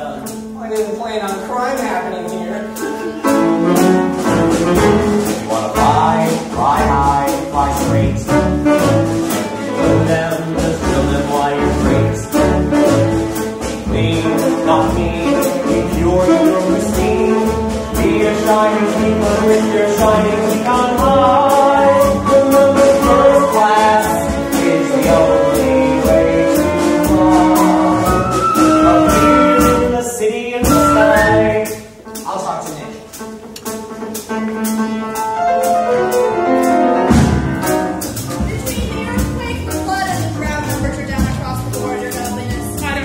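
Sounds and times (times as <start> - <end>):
pit band playing: 0.0 - 43.0
steady drum beat: 0.0 - 43.0.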